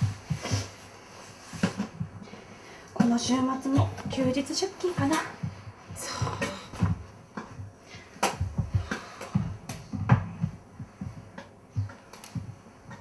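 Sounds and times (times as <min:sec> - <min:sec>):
soft low thuds: 0:01.4 - 0:13.0.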